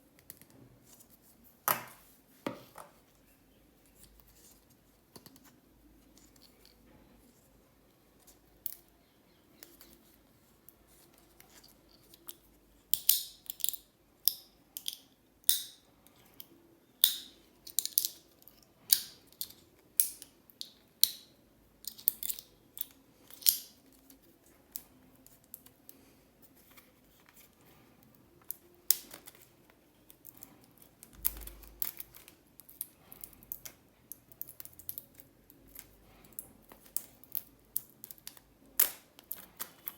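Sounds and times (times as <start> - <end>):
light clicks and handling noises: 0.1 - 39.9.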